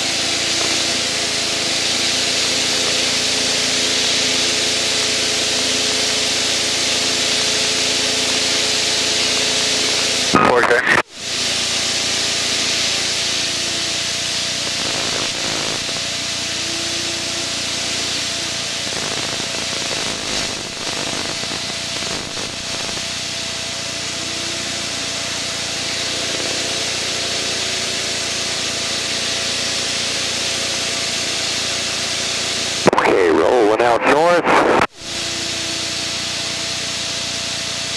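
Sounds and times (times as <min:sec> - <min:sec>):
propeller plane cockpit noise: 0:00.0 - 0:37.9.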